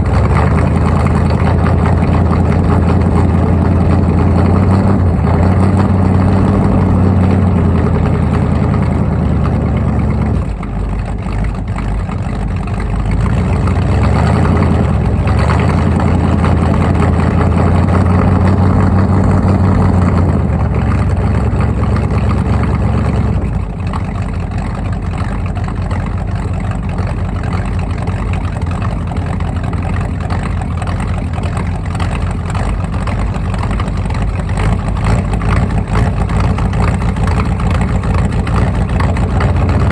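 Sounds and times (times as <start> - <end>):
engine running at tailpipe: 0.0 - 39.9.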